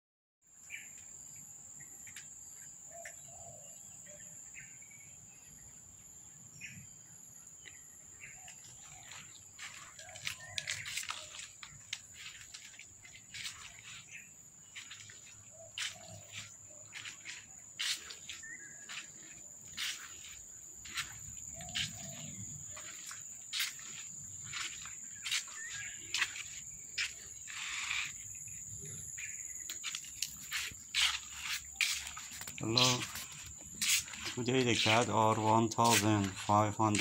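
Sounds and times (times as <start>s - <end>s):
insects high-pitched drone: 0.5s - 37.0s
insect clicks or chirps: 6.6s - 37.0s.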